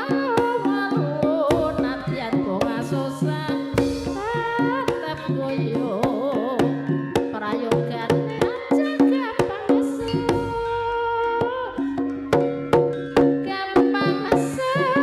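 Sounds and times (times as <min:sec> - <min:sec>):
hand drum strokes: 0:00.0 - 0:15.0.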